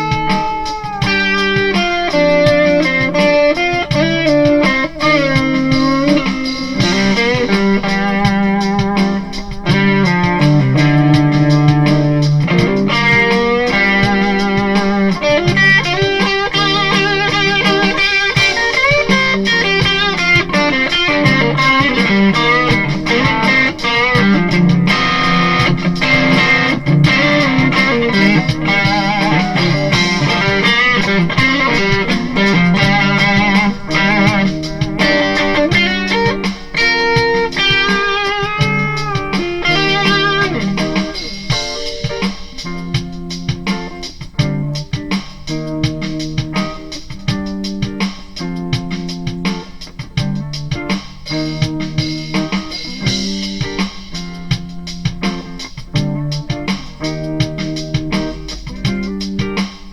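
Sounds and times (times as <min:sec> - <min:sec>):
electric guitar playing: 0:00.0 - 0:59.9.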